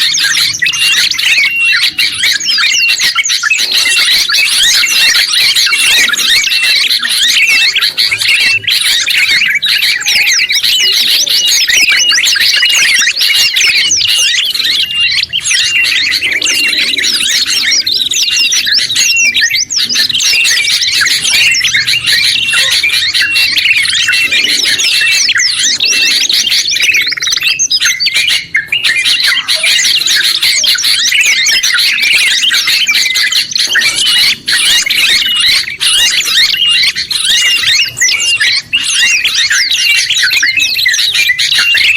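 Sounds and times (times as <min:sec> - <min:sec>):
small songbirds chirping: 0:00.0 - 0:41.9.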